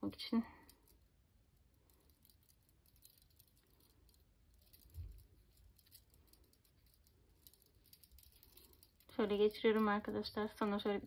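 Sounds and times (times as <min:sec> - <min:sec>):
ribbon rustling in fingers: 0:00.6 - 0:10.0.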